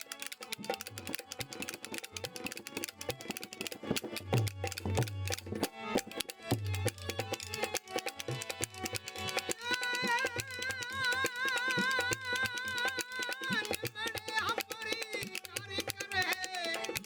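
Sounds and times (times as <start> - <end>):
hand drum and clapper percussion: 0.0 - 17.0.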